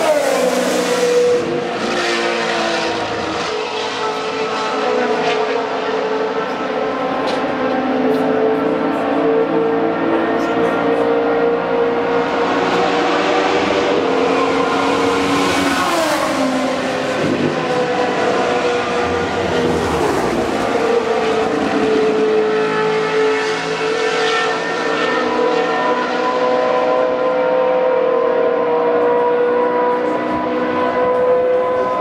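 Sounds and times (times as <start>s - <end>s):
racing car engines passing: 0.0s - 32.0s.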